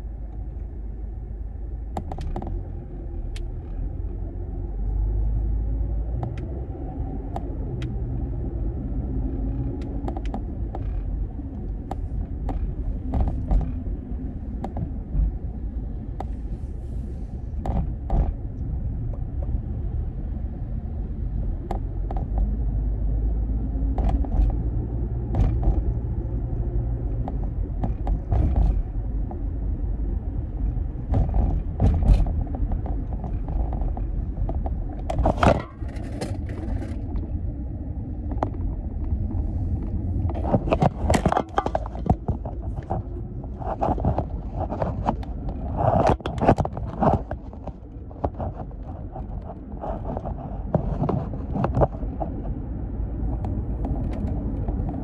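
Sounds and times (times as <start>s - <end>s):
road and engine rumble in car: 0.0s - 55.0s.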